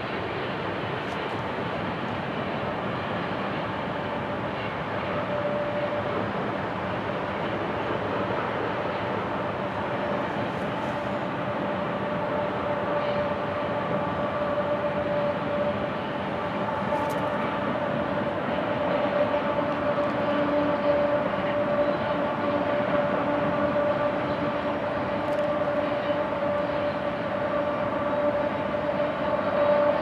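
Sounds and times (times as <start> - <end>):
diesel locomotive engine whine: 0.0 - 30.0
steel wheels rolling on rail: 0.0 - 30.0.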